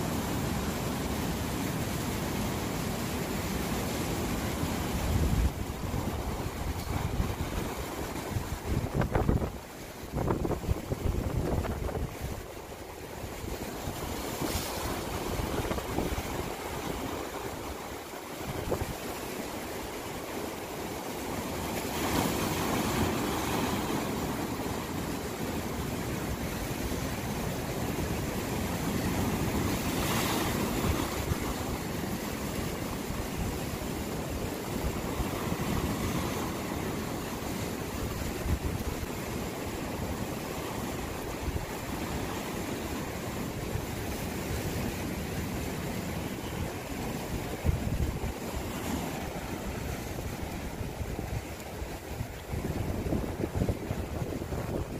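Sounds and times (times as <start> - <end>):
waves breaking over rocks: 0.0 - 54.9.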